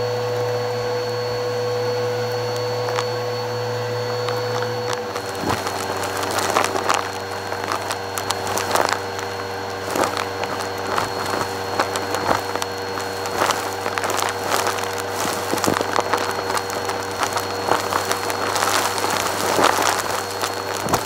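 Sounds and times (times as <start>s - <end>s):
vacuum cleaner motor hum: 0.0s - 21.0s
debris rattling up hose: 2.0s - 21.0s.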